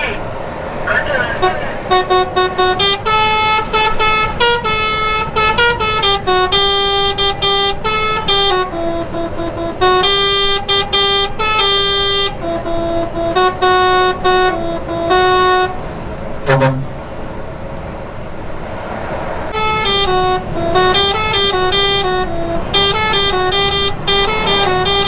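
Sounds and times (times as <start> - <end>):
musical lorry horn playing tune: 1.3 - 17.1, 19.5 - 25.0.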